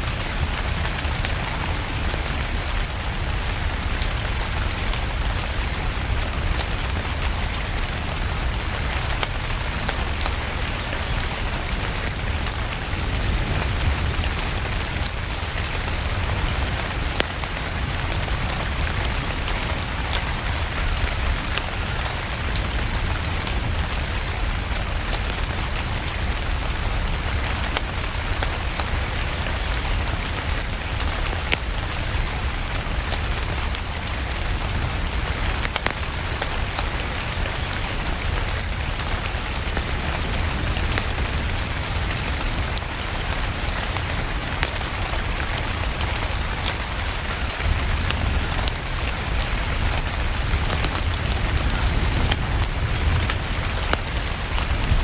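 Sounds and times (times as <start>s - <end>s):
steady rain hiss: 0.0s - 55.0s
wood fire crackling: 0.0s - 55.0s.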